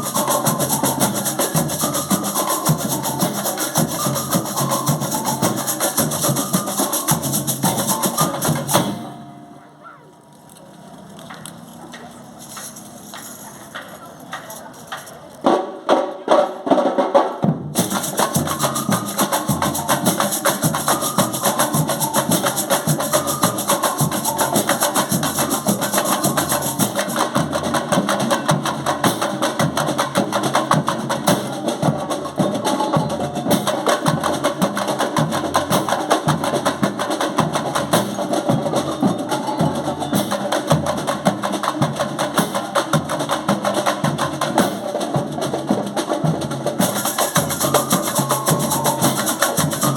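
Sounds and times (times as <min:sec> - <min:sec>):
band playing fast percussion: 0:00.0 - 0:09.9, 0:11.4 - 0:49.9.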